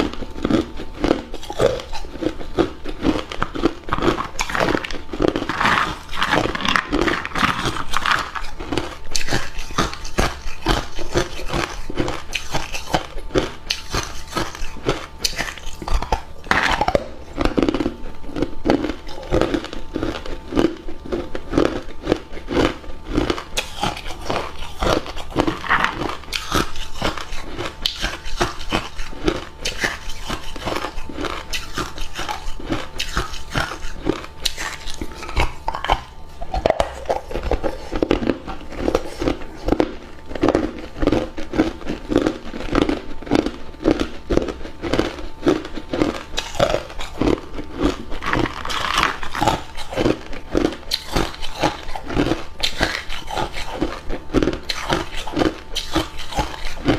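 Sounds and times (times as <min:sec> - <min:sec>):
person crunching ice cubes: 0:00.0 - 0:56.9.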